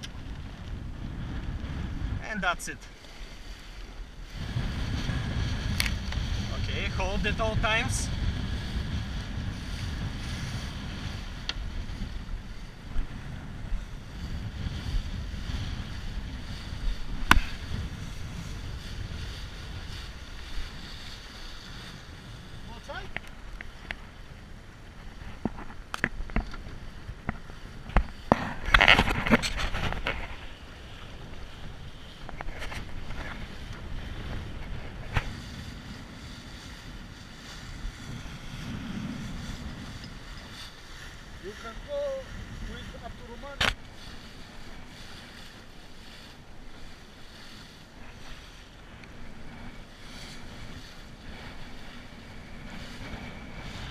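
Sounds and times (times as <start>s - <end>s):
water splashing along hull: 0.0s - 53.9s
wind buffeting microphone: 0.0s - 53.9s.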